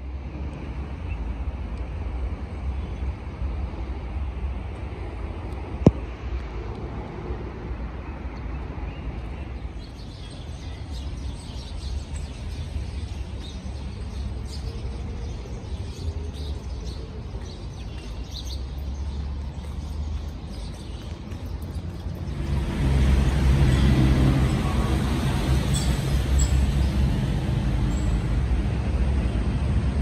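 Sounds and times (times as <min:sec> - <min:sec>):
distant traffic rumble: 0:00.0 - 0:30.0.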